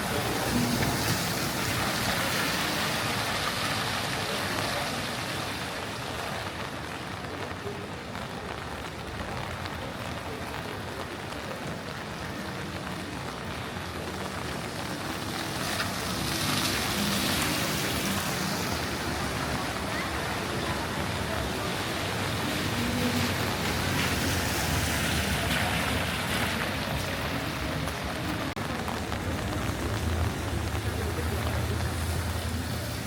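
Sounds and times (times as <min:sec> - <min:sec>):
rain on wet street: 0:00.0 - 0:33.0
traffic noise: 0:00.0 - 0:33.0.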